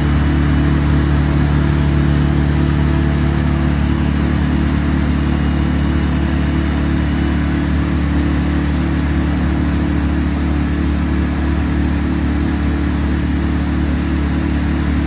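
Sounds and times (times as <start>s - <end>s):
large engine humming steadily: 0.0s - 15.0s.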